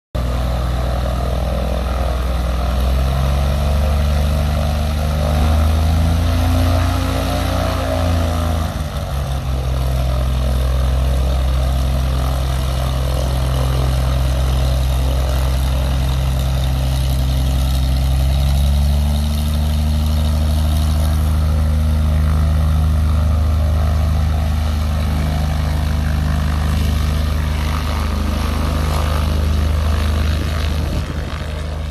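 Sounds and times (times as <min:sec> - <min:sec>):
propeller plane engine: 0:00.2 - 0:31.9.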